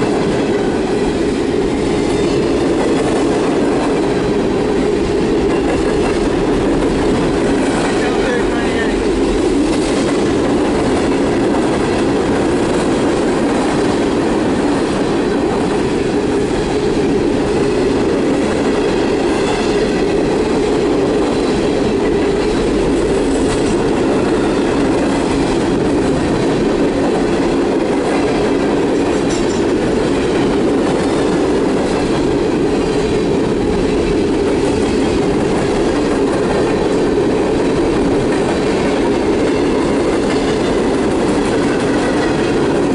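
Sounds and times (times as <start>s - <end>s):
train wheels rumbling and clacking: 0.0s - 42.9s.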